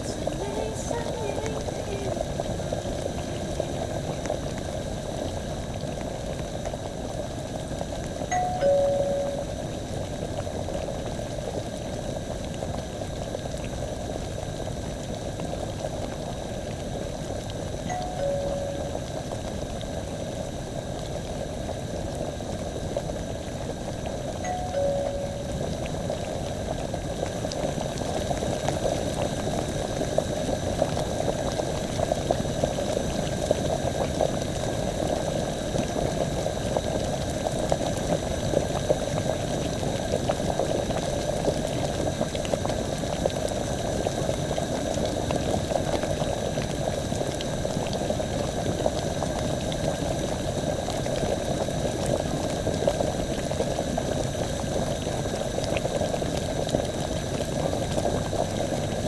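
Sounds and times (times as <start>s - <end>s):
liquid bubbling at a boil: 0.0s - 59.0s.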